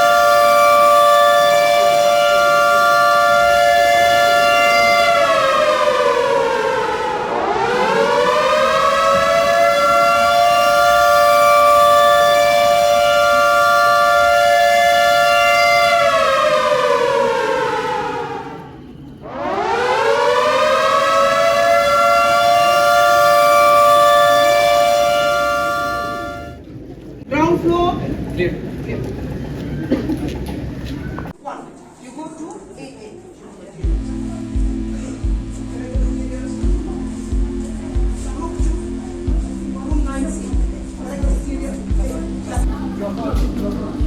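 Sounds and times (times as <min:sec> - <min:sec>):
warning siren wailing: 0:00.0 - 0:26.7, 0:33.8 - 0:44.0.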